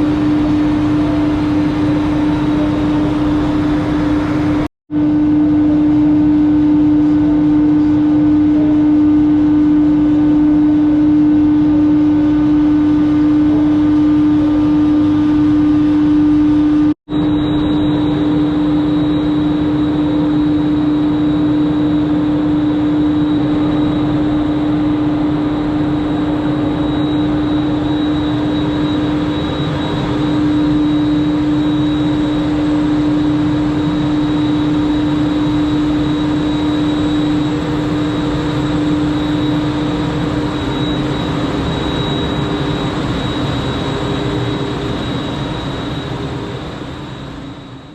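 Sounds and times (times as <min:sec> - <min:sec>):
ropeway drive machinery humming: 0:00.0 - 0:47.7.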